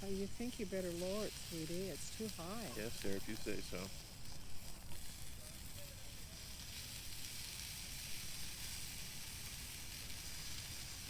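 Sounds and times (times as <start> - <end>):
hot dogs sizzling in a pan: 0.0 - 11.0.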